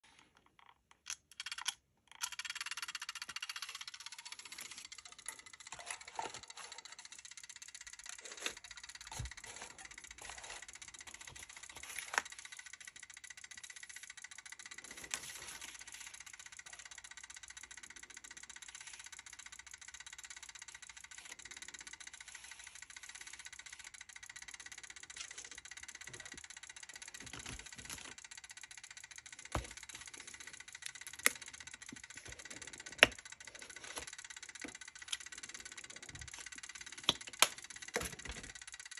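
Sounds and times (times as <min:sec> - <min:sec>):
kitchen timer ticking: 0:01.0 - 0:38.9.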